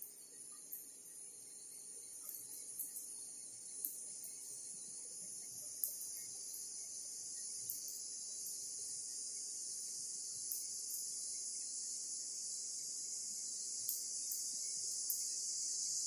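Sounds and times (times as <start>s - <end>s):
insect chorus chirring: 0.0s - 16.0s.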